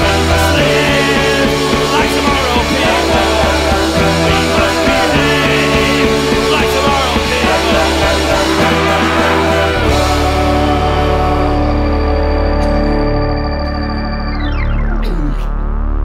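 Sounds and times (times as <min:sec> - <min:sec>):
bass holding long notes: 0:00.0 - 0:16.0
electric guitar: 0:00.0 - 0:16.0
keyboard: 0:00.0 - 0:16.0.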